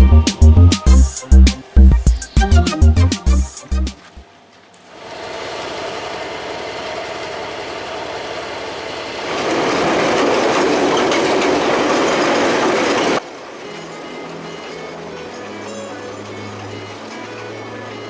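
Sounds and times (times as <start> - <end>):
diesel train running: 0.0 - 18.0.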